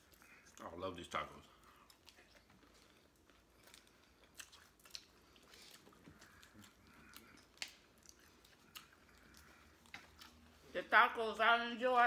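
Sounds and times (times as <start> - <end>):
faint chewing: 0.0 - 10.7.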